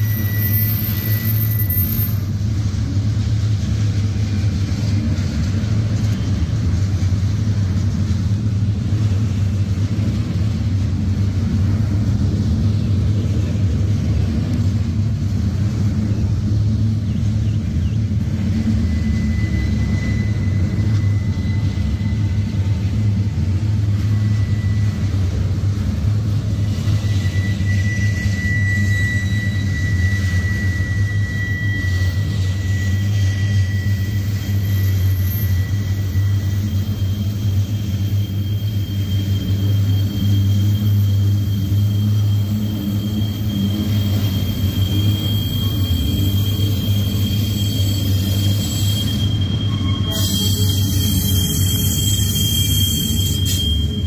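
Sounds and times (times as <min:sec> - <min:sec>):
high squeal: 0:00.0 - 0:54.0
train wheels rumbling on rail: 0:00.0 - 0:54.0.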